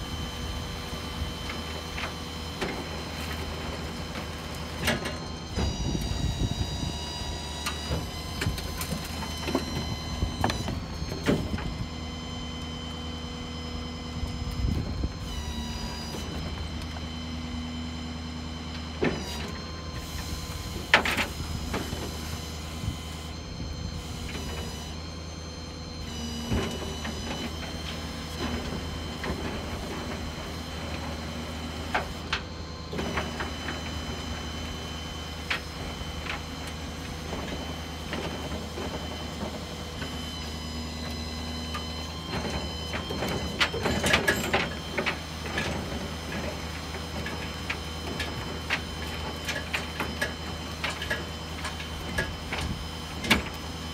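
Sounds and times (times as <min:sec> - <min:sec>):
hydraulic whine: 0:00.0 - 0:53.9
truck engine running: 0:00.0 - 0:53.9.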